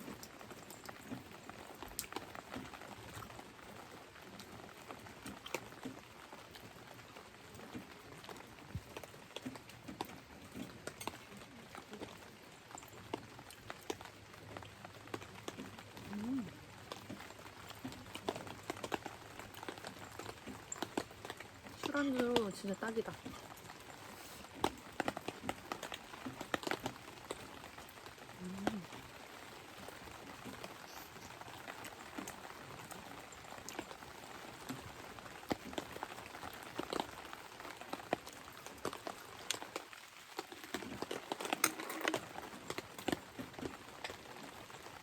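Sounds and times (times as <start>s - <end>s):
rain falling: 0.0s - 45.0s
raindrops ticking on a surface: 0.0s - 45.0s.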